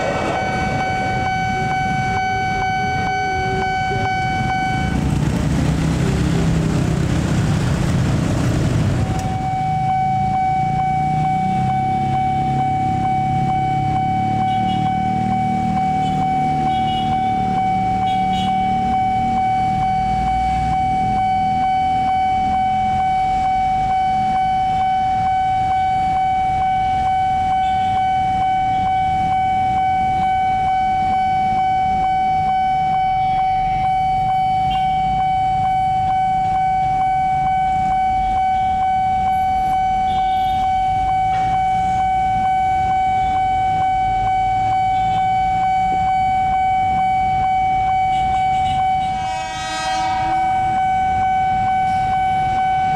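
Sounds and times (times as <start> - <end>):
level crossing alarm tone: 0.0 - 52.9
low traffic rumble: 0.0 - 52.9.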